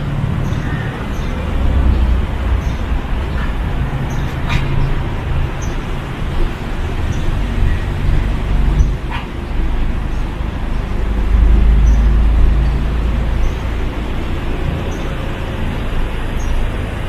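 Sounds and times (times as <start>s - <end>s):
city road traffic: 0.0s - 17.0s
heavy vehicle engine rumble: 0.0s - 17.0s.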